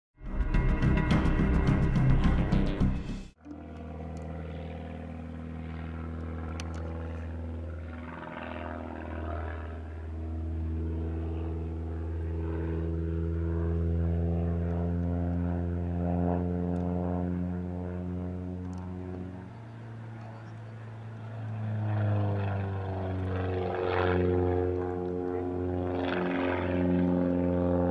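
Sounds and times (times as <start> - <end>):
propeller plane engine droning: 0.2 - 27.9.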